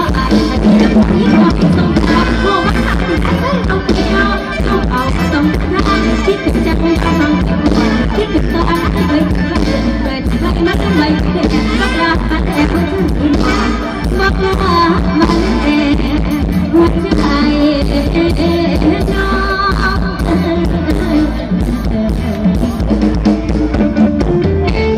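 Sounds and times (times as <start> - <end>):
woman singing: 0.0 - 23.2
electric guitar: 0.0 - 24.9
live band playing: 0.0 - 24.9.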